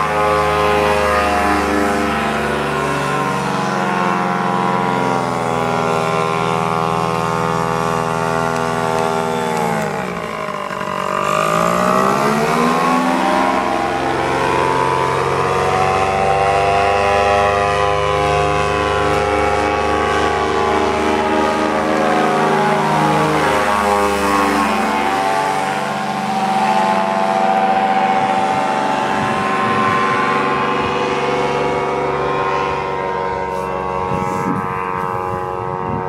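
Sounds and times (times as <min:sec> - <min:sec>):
paramotor engine and propeller: 0:00.0 - 0:36.0.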